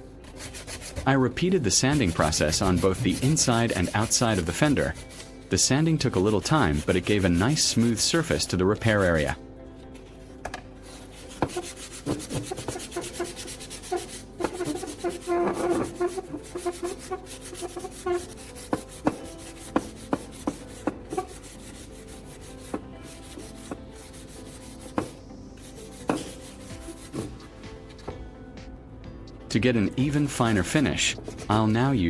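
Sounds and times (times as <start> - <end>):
sandpaper rubbing on plastic: 0.0 - 28.1, 29.9 - 32.0.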